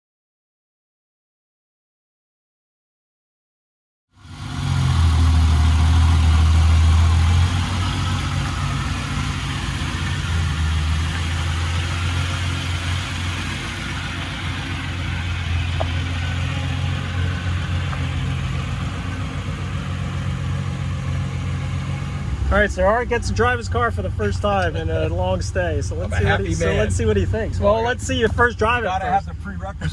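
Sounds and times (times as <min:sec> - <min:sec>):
car engine idling: 0:04.2 - 0:29.9.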